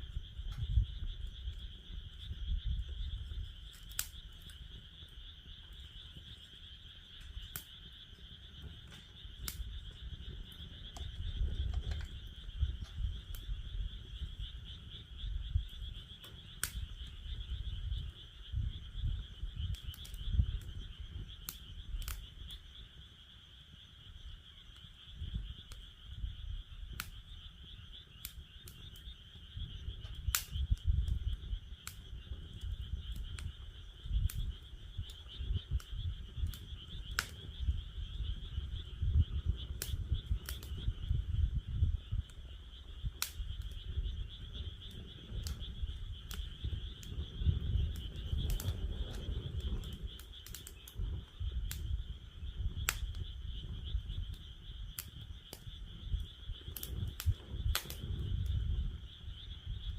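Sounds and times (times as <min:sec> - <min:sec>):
frogs calling: 0:00.0 - 0:59.9
wood fire crackling and popping: 0:00.0 - 0:59.9.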